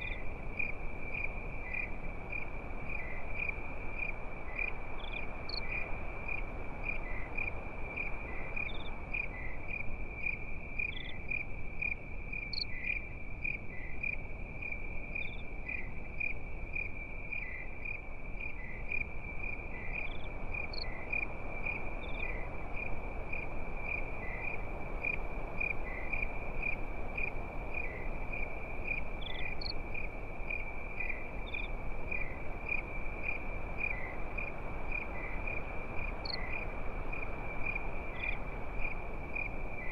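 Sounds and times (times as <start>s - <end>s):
campfire crackling hiss: 0.0s - 39.9s
crickets chirping: 0.0s - 39.9s
other insects chirping: 0.0s - 39.9s.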